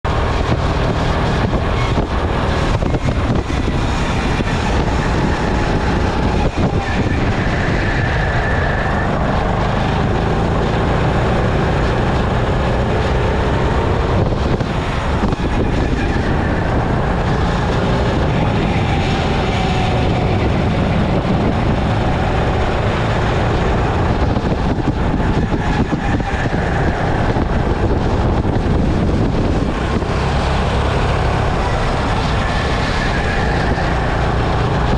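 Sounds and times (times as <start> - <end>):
go-kart engine running: 0.1 - 34.9.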